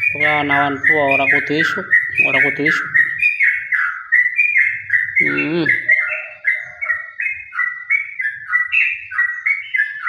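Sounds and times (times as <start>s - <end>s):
bird singing fast chirps: 0.0s - 10.0s.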